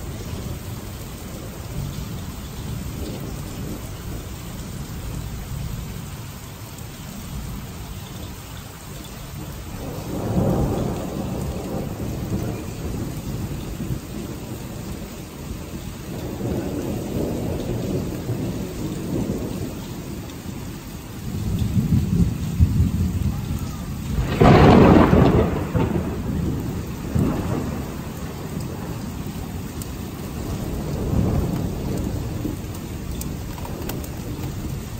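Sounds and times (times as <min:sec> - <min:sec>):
steady rain: 0:00.0 - 0:34.9
thunder rumbling: 0:00.0 - 0:34.9.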